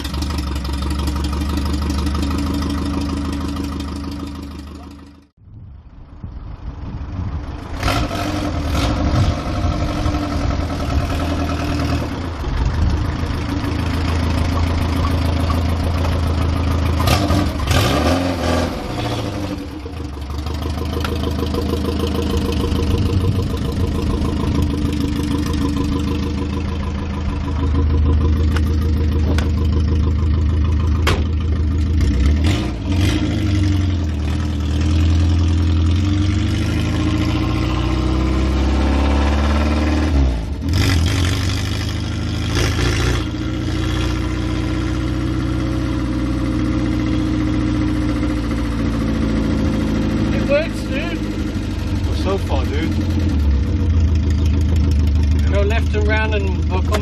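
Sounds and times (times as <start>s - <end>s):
car engine revving and spluttering: 7.6s - 13.2s, 15.8s - 31.2s, 31.8s - 57.0s.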